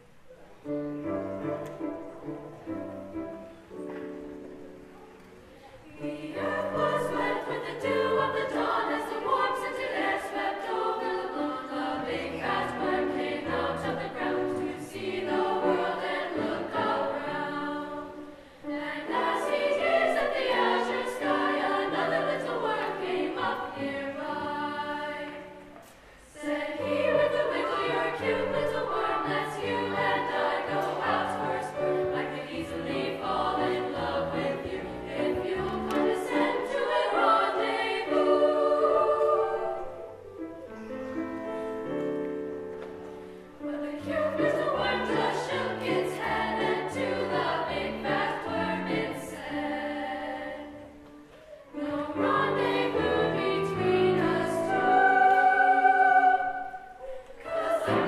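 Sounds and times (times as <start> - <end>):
piano accompaniment: 0.6 - 25.8, 26.4 - 58.0
women's choir singing: 5.6 - 58.0.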